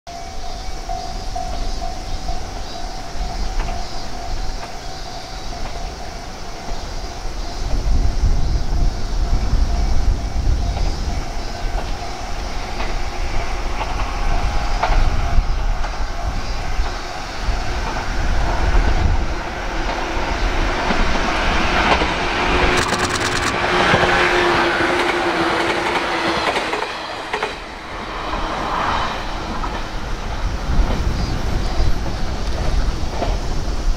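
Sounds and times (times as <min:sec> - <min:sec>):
electric train passing: 0:00.1 - 0:33.9
wind rumble on microphone: 0:00.3 - 0:26.8, 0:27.4 - 0:33.9
train clicks: 0:00.4 - 0:33.9
rail clatter: 0:00.5 - 0:33.9.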